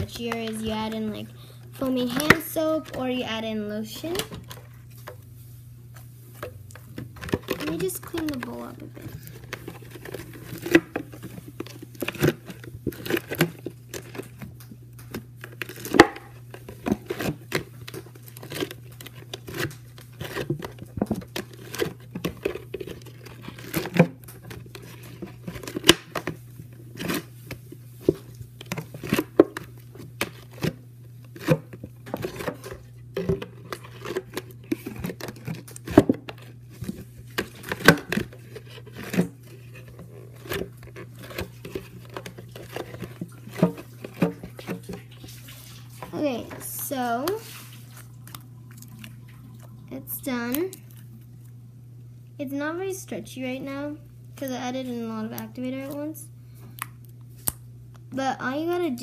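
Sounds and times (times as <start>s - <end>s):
slime squelching and crackling: 0.0s - 5.3s, 5.9s - 51.6s
steady low hum: 0.0s - 59.0s.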